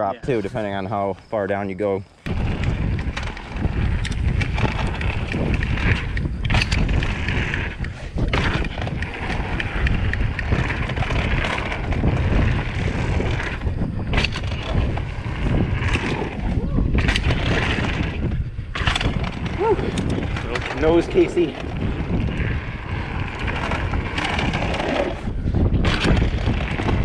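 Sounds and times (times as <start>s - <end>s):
wind buffeting microphone: 0.0s - 27.0s
tyres rolling on dirt: 0.2s - 27.0s
bike knocking and rattling: 2.2s - 27.0s.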